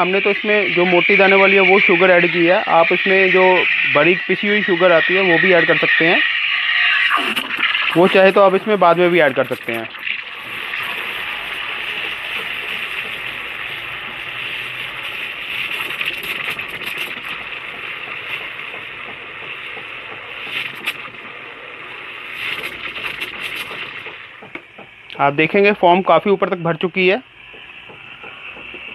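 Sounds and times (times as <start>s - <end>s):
steam wand frothing milk: 0.0s - 28.9s.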